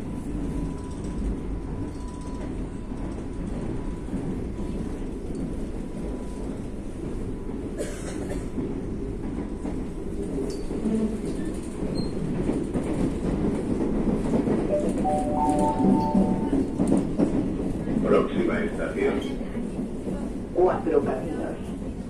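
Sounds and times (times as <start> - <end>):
subway train rumbling: 0.0 - 22.0.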